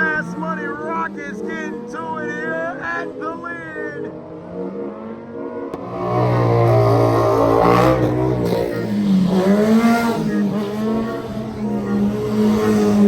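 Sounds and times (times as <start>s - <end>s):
motorcycle engines accelerating: 0.0s - 13.0s.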